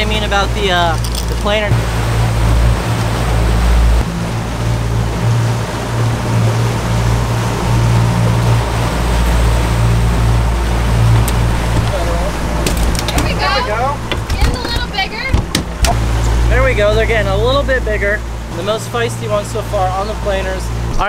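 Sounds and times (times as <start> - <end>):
boat wake rushing: 0.0 - 21.0
outboard motors droning: 0.0 - 21.0.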